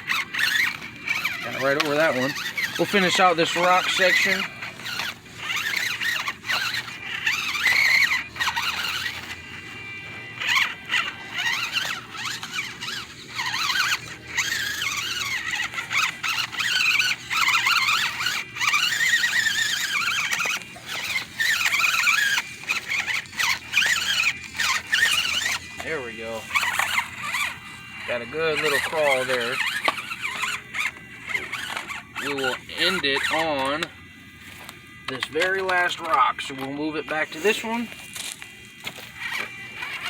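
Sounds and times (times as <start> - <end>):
small electric motor whining: 0.0 - 40.0.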